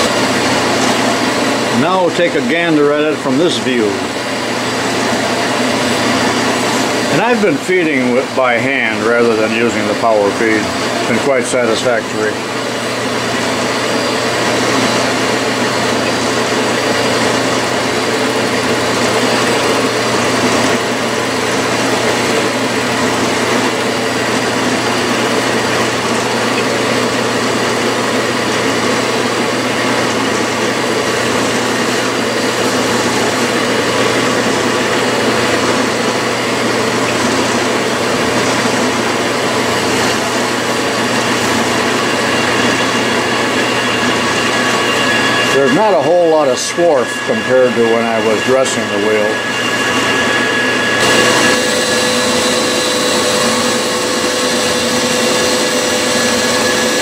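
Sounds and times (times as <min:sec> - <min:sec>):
grinder running on a lathe: 0:00.0 - 0:57.0.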